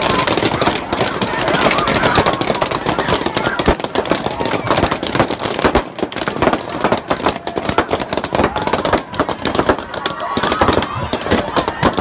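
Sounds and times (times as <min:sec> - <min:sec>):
rapid sharp cracks and pops: 0:00.0 - 0:12.0.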